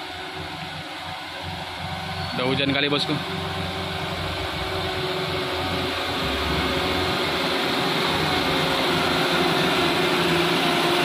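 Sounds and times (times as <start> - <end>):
truck diesel engine pulling: 0.0 - 11.0.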